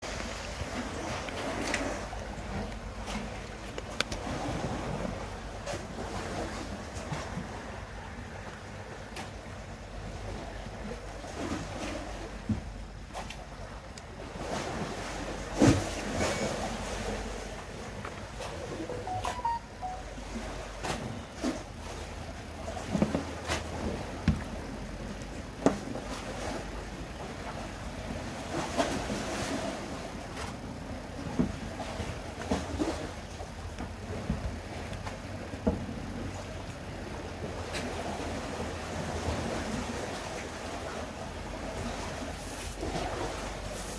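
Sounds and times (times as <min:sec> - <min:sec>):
sea waves washing: 0:00.0 - 0:43.9.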